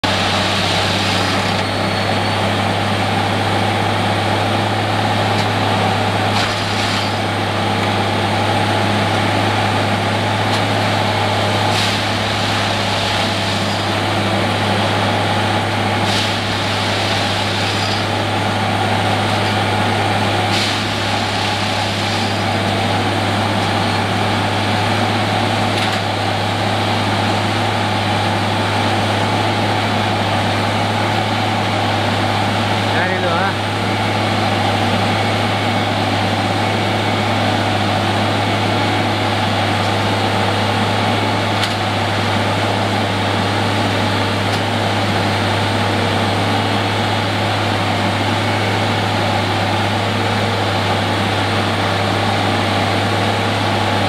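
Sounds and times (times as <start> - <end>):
diesel machine droning: 0.0 - 54.0.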